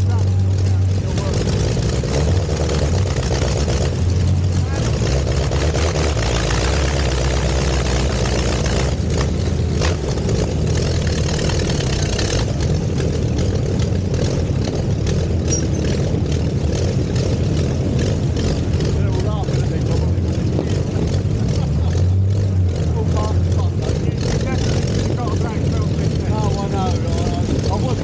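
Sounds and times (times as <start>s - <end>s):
engine running at low revs: 0.0s - 28.0s.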